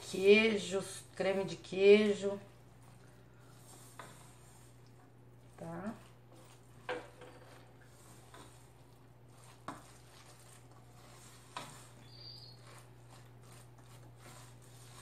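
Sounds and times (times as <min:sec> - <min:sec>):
hand mixing food squishing: 0:00.0 - 0:15.0.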